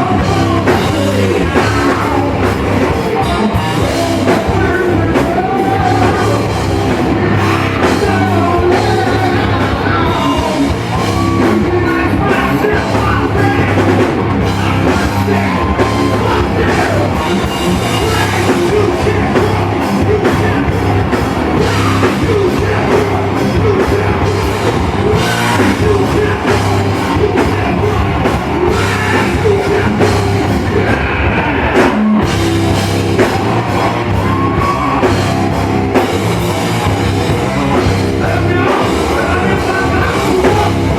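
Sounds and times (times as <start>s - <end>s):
person singing: 0.0s - 40.9s
rock band playing loud: 0.0s - 40.9s.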